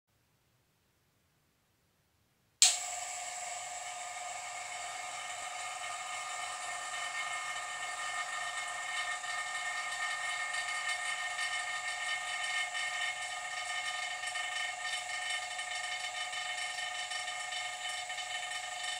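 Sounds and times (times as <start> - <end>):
vacuum pump hiss and whine: 2.6 - 18.9.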